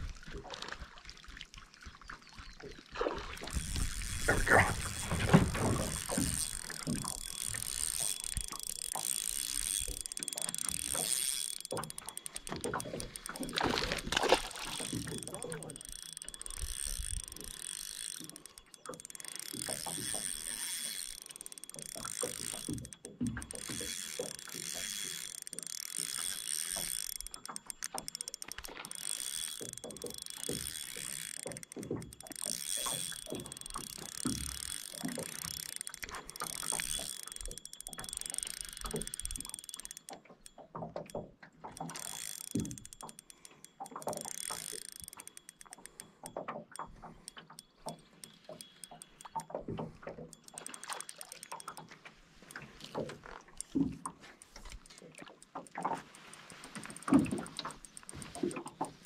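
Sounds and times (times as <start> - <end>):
fishing reel clicking: 3.2 - 59.0.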